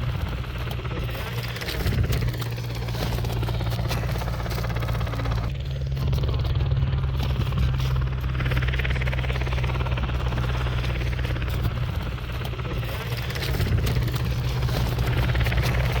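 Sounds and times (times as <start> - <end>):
fast rotor chop: 0.0 - 16.0
helicopter engine and rotor drone: 0.0 - 16.0.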